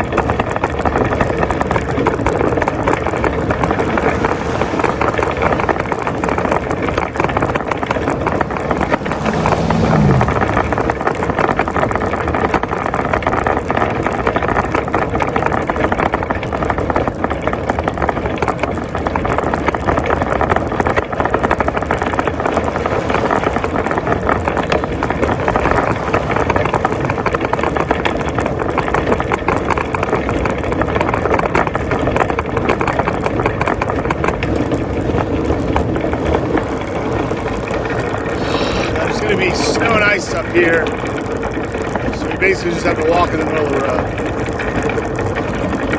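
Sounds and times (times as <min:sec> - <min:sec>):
shopping cart rattling on pavement: 0:00.0 - 0:45.9.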